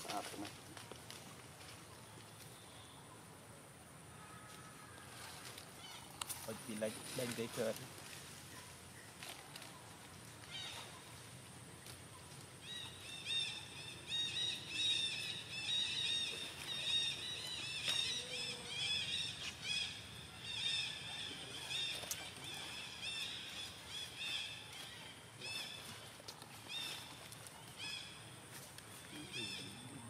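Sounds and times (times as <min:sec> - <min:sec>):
birds chirping: 0:05.0 - 0:30.0.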